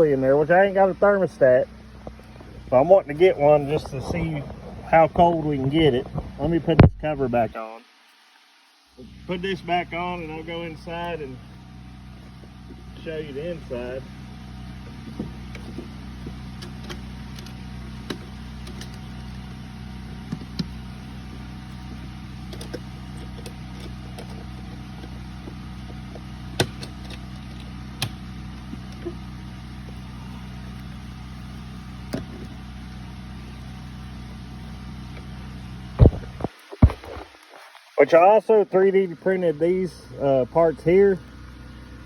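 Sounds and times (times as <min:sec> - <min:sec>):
air conditioner humming: 0:00.0 - 0:42.0.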